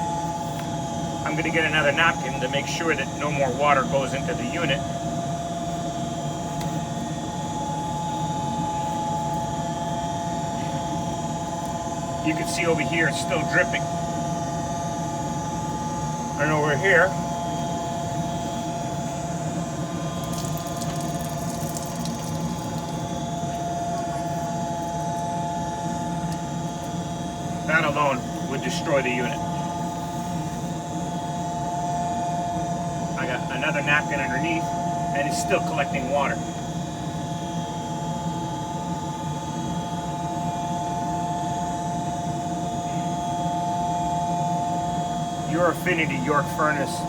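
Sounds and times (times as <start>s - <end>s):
furnace humming: 0.0s - 47.0s.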